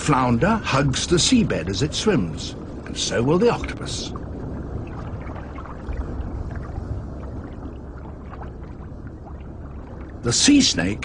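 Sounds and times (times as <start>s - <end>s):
underwater rumbling wash: 0.0s - 11.0s.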